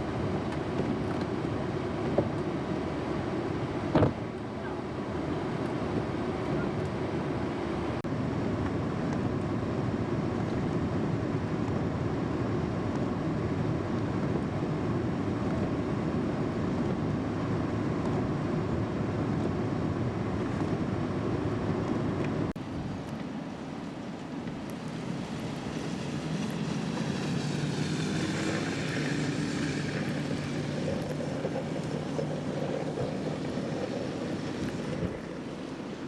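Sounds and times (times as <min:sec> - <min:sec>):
car driving on snowy road: 0:00.0 - 0:36.0.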